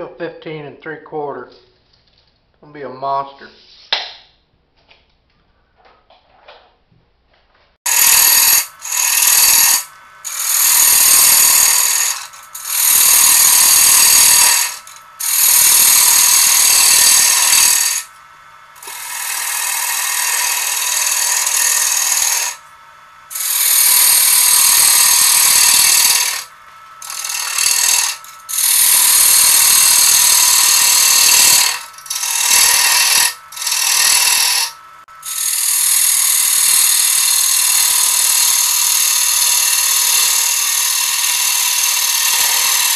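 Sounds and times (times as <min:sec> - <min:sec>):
gouge hissing on wood lathe: 0:07.9 - 0:42.9
lathe humming: 0:07.9 - 0:42.9.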